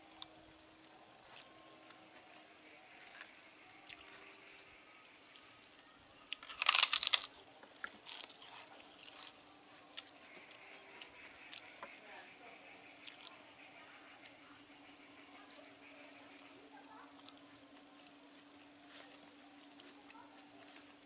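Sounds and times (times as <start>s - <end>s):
crunching while chewing: 1.2s - 12.0s, 13.0s - 13.4s, 15.3s - 21.0s.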